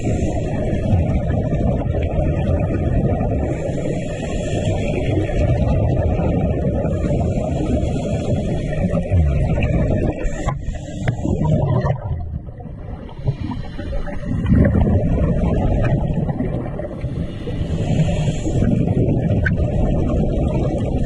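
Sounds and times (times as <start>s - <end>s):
muffled underwater rumbling: 0.0s - 21.0s.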